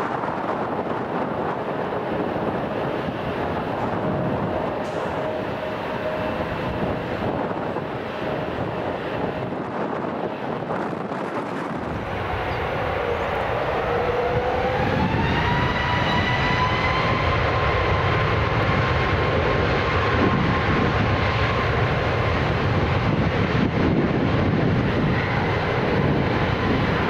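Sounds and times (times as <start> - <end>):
jet engine whine rising: 0.0 - 27.0
jet roar: 0.0 - 27.0.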